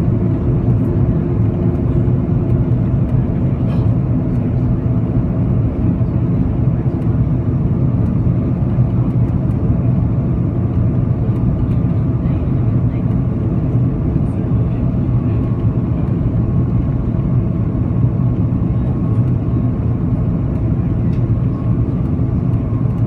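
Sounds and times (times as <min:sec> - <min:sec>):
airliner cabin drone: 0:00.0 - 0:23.0.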